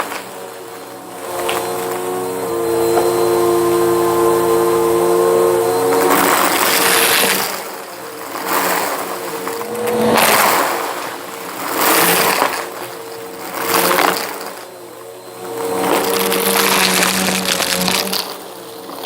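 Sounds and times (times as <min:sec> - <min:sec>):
brushroll crunching debris: 0:00.0 - 0:19.0
vacuum cleaner motor hum: 0:00.0 - 0:19.0.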